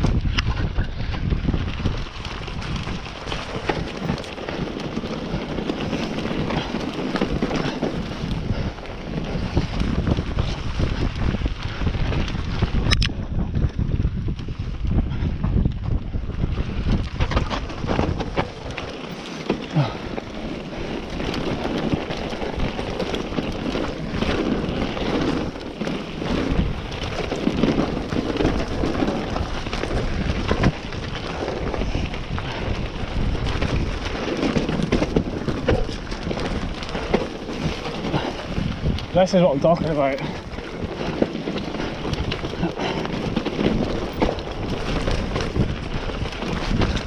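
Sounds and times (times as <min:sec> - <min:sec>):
bike rattling over bumps: 0:00.0 - 0:47.0
bike tyres on ground: 0:00.0 - 0:47.0
wind rushing over microphone: 0:00.0 - 0:47.0.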